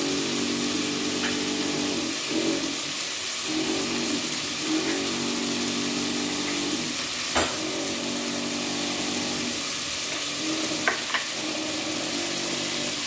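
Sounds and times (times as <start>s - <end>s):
beef sizzling in hot oil: 0.0s - 13.0s.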